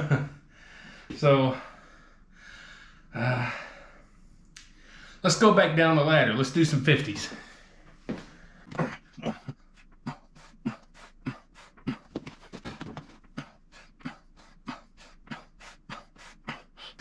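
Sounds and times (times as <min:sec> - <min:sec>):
man breathing hard in puffs: 0:00.5 - 0:05.2, 0:07.3 - 0:17.0.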